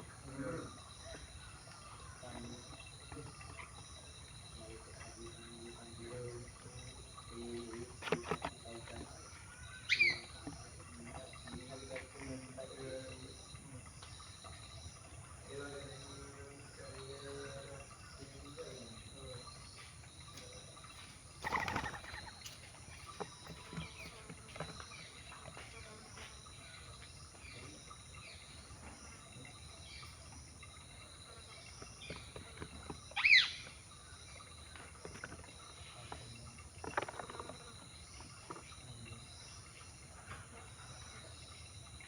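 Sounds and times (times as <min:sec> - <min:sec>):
bird calls: 0:00.0 - 0:42.0
outdoor background noise: 0:00.0 - 0:42.0.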